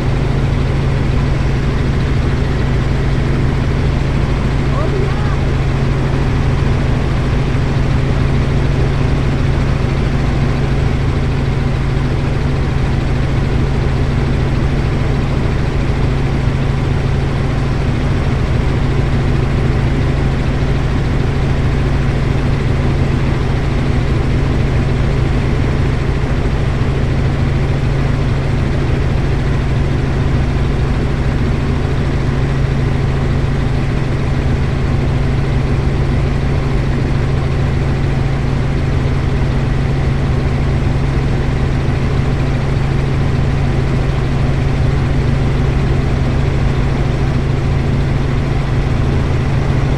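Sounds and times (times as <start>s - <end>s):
helicopter running: 0.0s - 49.9s.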